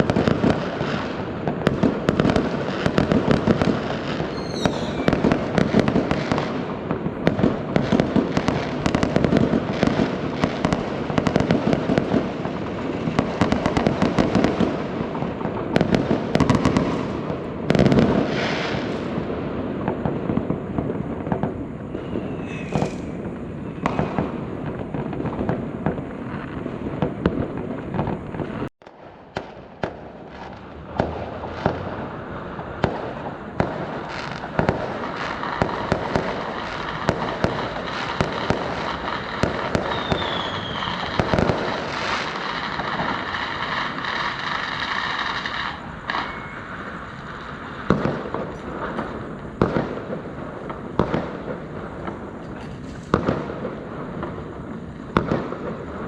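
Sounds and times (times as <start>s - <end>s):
fireworks bangs and crackle: 0.0s - 56.0s
whistling rockets: 0.0s - 56.0s.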